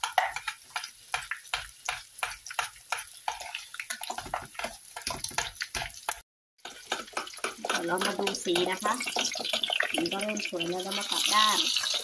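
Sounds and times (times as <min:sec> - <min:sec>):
mashed potato stirred in saucepan: 0:00.0 - 0:12.0.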